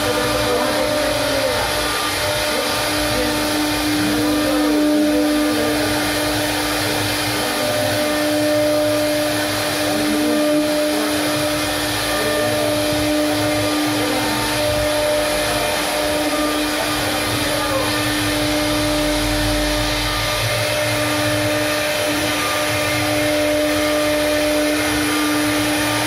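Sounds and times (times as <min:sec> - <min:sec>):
router spindle motor hum: 0:00.0 - 0:26.0.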